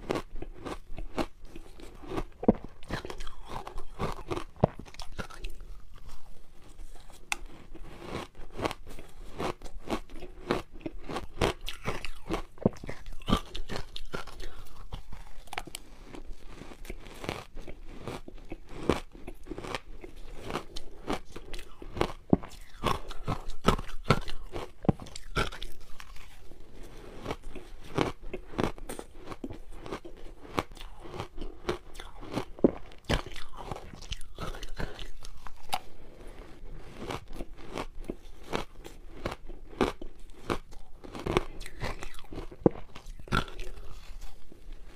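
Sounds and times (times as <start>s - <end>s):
ice being crunched and chewed: 0.0s - 44.9s.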